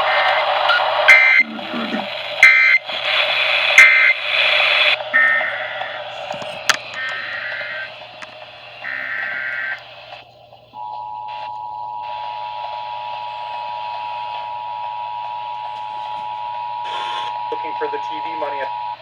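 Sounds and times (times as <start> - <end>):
radio hiss: 0.0 - 19.0.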